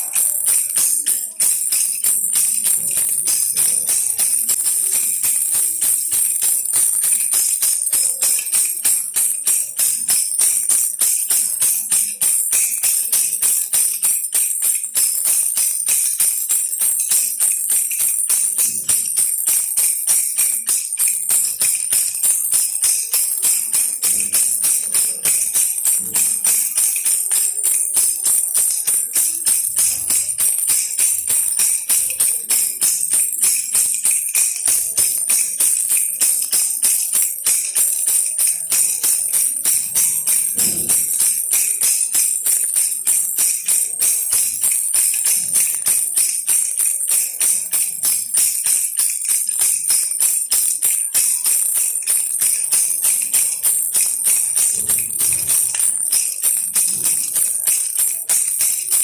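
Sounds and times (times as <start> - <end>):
baby rattle shaken: 0.0 - 59.0.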